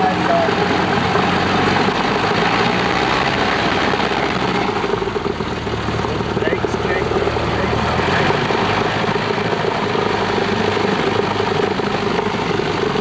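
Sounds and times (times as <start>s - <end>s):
aircraft piston engine and propeller: 0.0s - 13.0s.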